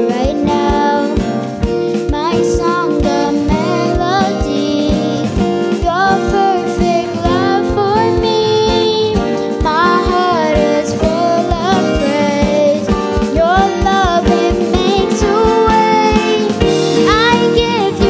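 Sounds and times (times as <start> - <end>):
acoustic guitar: 0.0 - 18.0
girl singing a worship song: 0.0 - 18.0
steady drum beat: 0.0 - 18.0.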